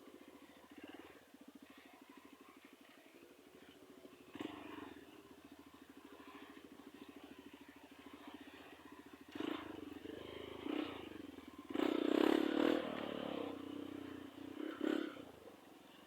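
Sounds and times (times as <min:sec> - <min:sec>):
motorcycle engine revving: 0:00.2 - 0:02.8, 0:03.6 - 0:16.0.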